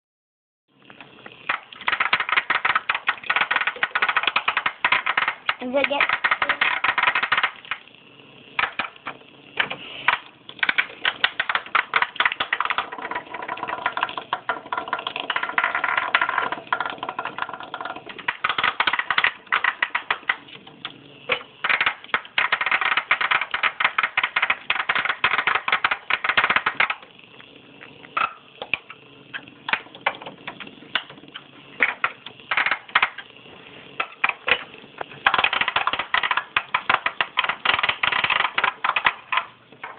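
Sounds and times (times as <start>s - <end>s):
toy bug rattling on plastic: 1.4s - 8.0s, 8.6s - 20.5s, 21.3s - 27.2s, 28.2s - 33.4s, 34.0s - 39.9s.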